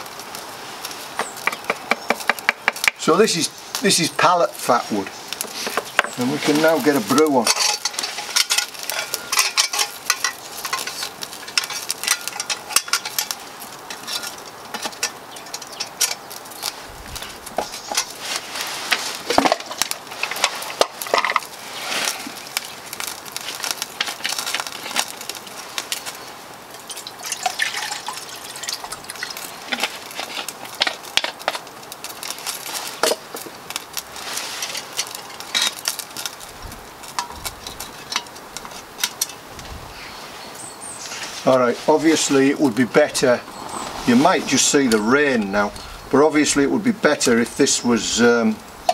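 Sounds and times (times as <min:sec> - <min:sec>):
fire hiss: 0:00.0 - 0:48.9
wood fire crackling and popping: 0:00.0 - 0:48.9.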